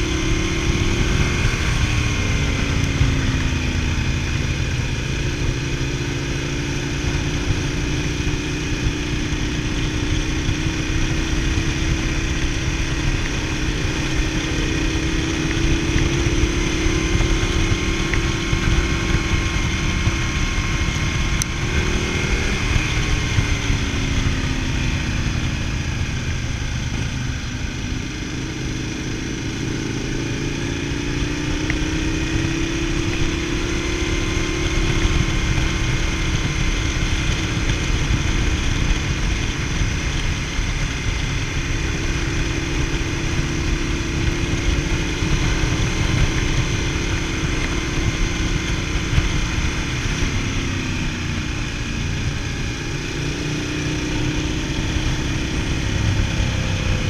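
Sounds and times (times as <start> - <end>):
motorcycle engine: 0.0 - 57.0
wind rumble on microphone: 0.0 - 57.0.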